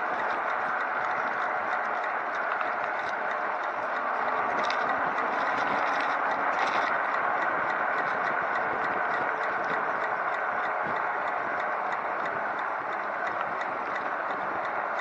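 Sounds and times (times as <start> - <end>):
light regular ticking: 0.0 - 15.0.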